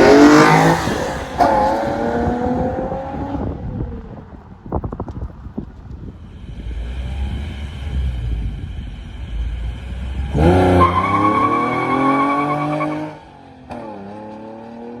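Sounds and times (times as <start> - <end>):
car engine rumbling and revving: 0.0 - 15.0.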